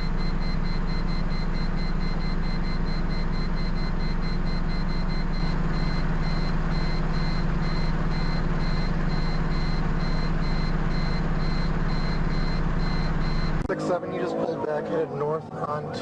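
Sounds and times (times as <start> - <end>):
high electronic beeps: 0.0 - 13.7
low vehicle drone: 0.0 - 16.0.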